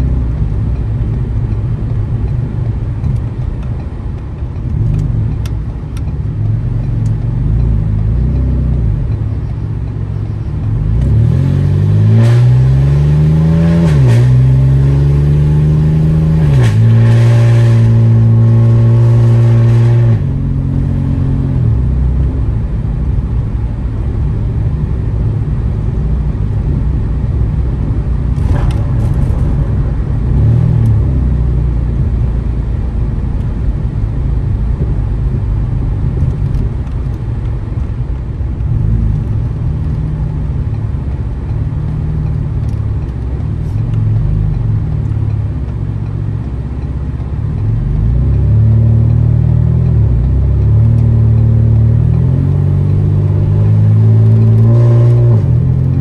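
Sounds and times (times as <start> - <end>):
loud car exhaust drone: 0.0 - 56.0.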